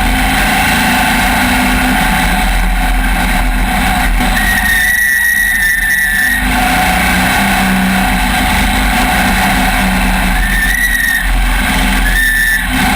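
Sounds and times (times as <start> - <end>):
high whine: 0.0 - 12.9
race vehicle engine running: 0.0 - 12.9.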